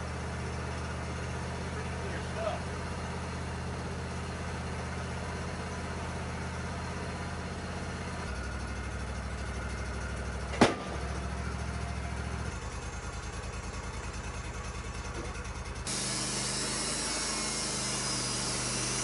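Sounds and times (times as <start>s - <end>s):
sawmill engine idling: 0.0s - 19.0s.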